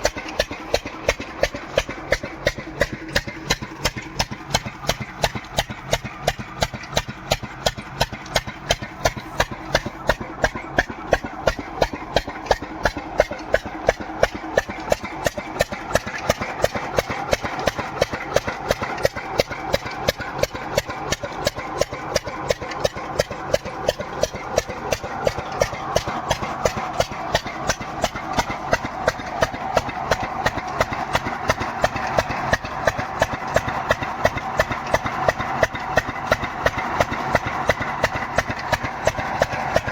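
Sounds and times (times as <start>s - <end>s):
diesel engine driving water pump: 0.0s - 39.9s.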